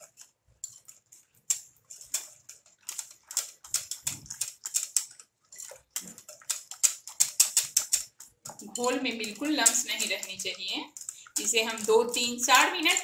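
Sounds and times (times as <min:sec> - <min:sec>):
whisk beating batter in bowl: 0:00.0 - 0:13.0.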